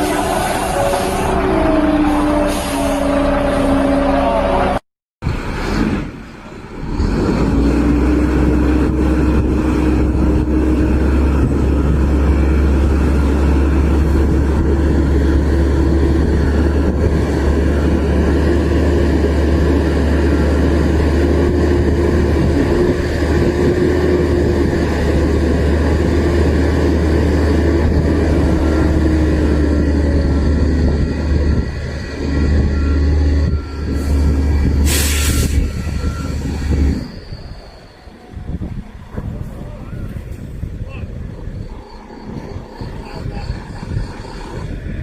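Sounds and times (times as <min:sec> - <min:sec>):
heavy truck engine droning: 0:00.0 - 0:45.0.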